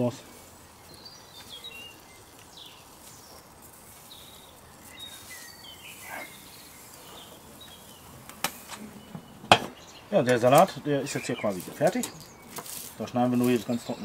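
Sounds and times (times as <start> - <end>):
background hiss: 0.0 - 14.0
birds chirping: 0.0 - 14.0.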